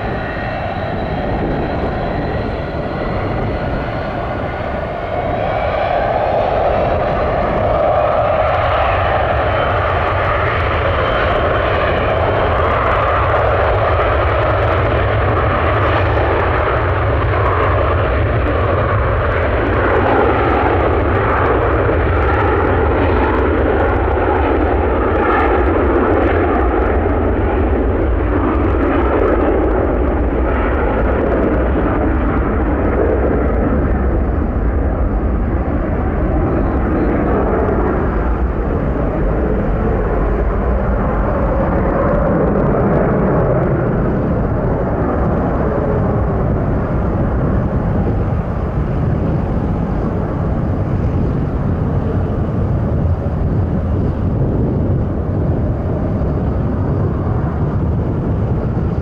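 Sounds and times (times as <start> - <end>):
jet engines roaring at takeoff: 0.0 - 59.0.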